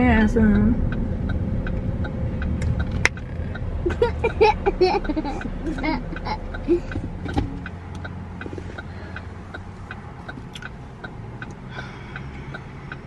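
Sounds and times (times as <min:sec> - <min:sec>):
car cabin hum: 0:00.0 - 0:13.0
turn signal clicking: 0:00.0 - 0:13.0.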